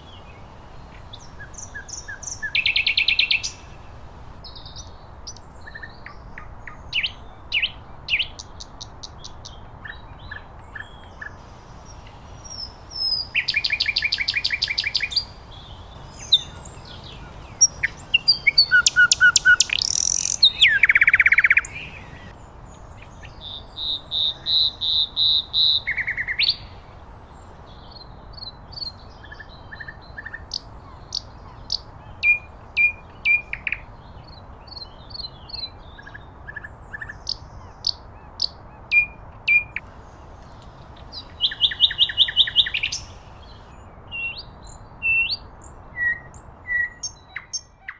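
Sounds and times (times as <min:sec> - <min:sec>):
nightingale singing: 0:00.0 - 0:47.9.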